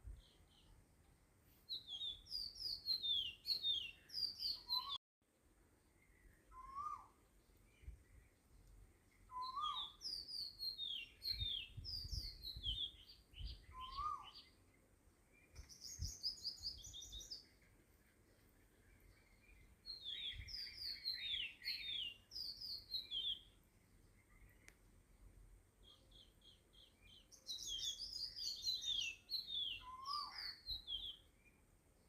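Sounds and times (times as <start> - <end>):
small birds chirping: 0.0 - 5.0, 5.8 - 32.0.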